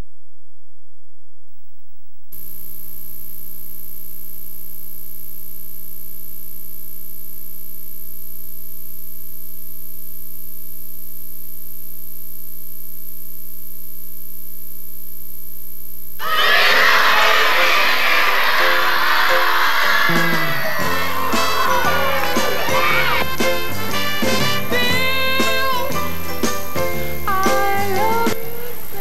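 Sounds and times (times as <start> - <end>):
tape playback hum: 1.0 - 29.0
tape hiss: 2.3 - 29.0.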